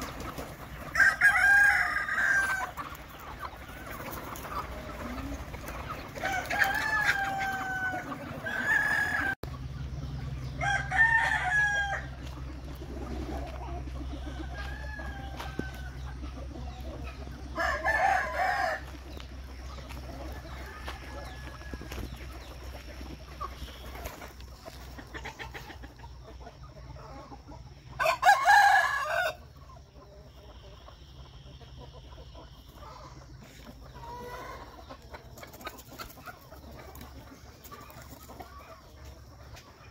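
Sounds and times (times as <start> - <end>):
roosters crowing: 0.0 - 26.3, 27.0 - 30.0, 32.8 - 39.9
chickens clucking: 0.0 - 39.9.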